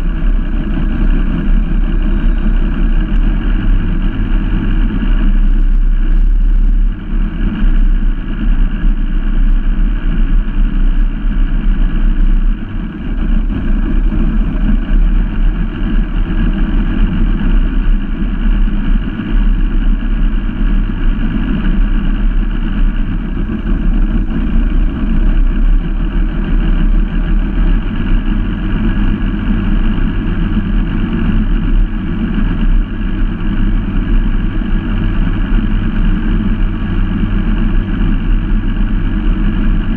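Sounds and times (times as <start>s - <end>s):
outboard boat engines running: 0.0s - 39.9s.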